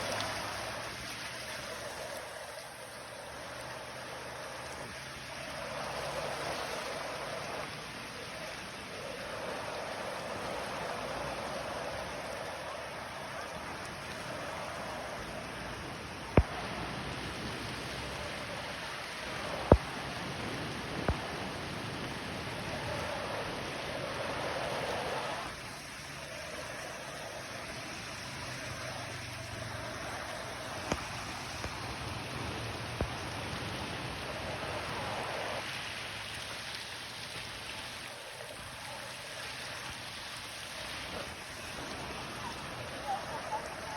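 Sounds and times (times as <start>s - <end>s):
floodwater rushing: 0.0s - 43.9s.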